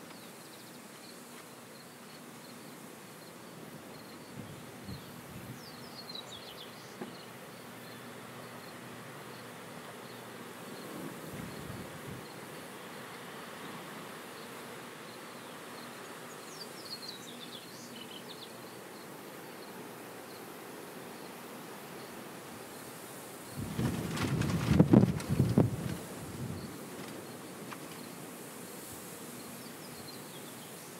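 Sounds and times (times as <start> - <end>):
insects buzzing: 0.0 - 30.9.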